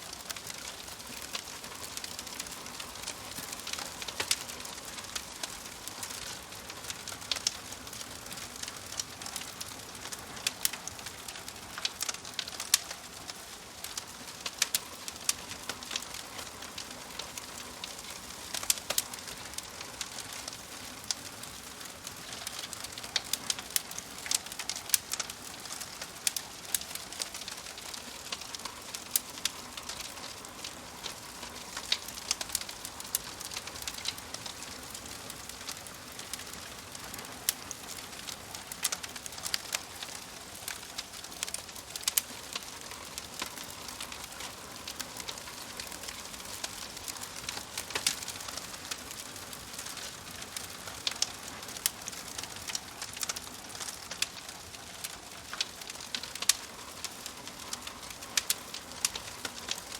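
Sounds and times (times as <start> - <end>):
logs crackling in fireplace: 0.0 - 59.9
steady hiss: 0.0 - 59.9.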